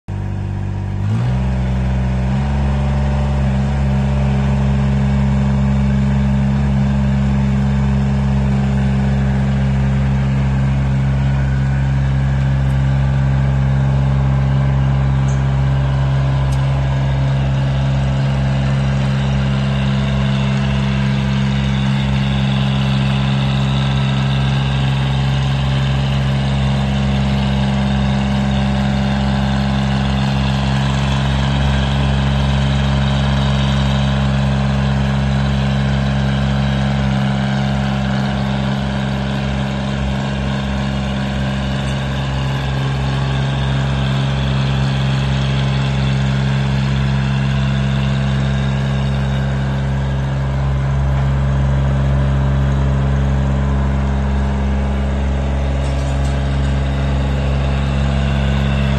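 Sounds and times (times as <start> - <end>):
diesel engine of roller running: 0.0 - 58.9.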